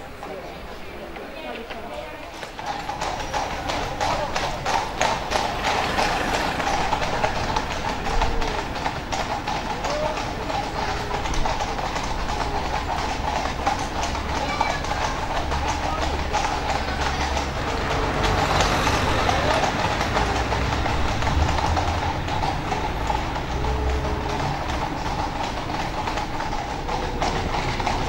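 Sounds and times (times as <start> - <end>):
carriage wheels rumbling: 0.0 - 28.0
horse hooves clip-clopping: 0.0 - 28.0.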